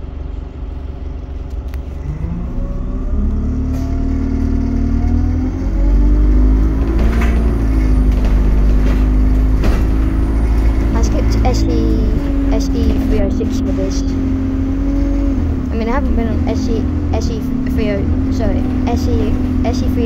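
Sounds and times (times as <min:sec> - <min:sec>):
bus engine pulling away: 0:00.0 - 0:20.0.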